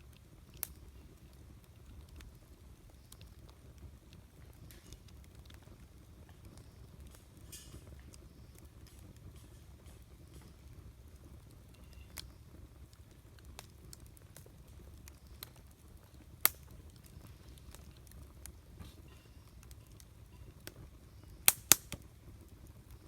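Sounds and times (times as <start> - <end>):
campfire crackling: 0.0 - 23.0
fire popping sharply: 0.0 - 23.0.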